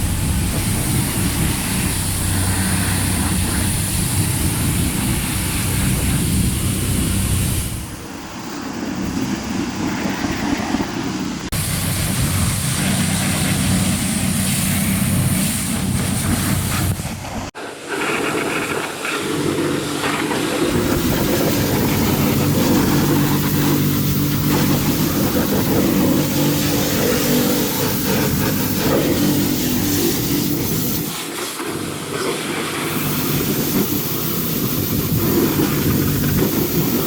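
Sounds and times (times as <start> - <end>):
detailing machine humming and hissing: 0.0 - 9.2, 11.5 - 17.4, 18.6 - 37.0.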